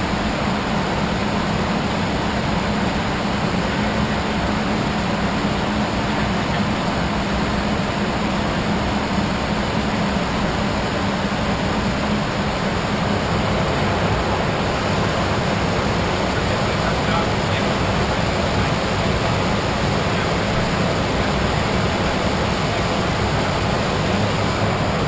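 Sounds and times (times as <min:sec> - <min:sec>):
airflow rush in cockpit: 0:00.0 - 0:25.0
low steady hum: 0:00.0 - 0:25.0.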